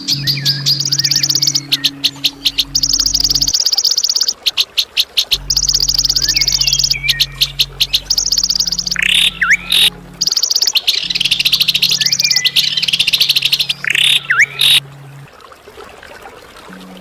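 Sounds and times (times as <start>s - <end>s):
steady low hum: 0.0s - 3.9s, 5.3s - 15.4s
songbird buzzing trills: 0.0s - 15.3s.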